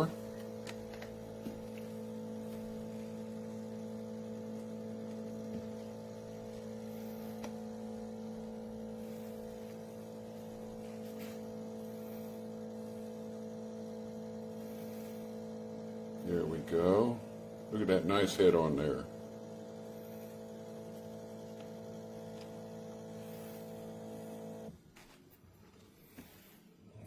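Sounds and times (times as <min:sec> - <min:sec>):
espresso machine pump humming: 0:00.0 - 0:24.8.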